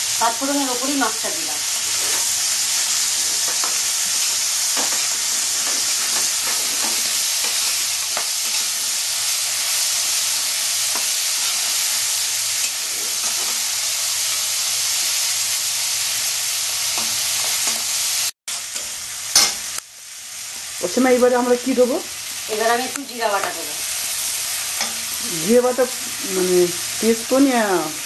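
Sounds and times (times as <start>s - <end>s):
prawns sizzling in oil: 0.0s - 28.0s.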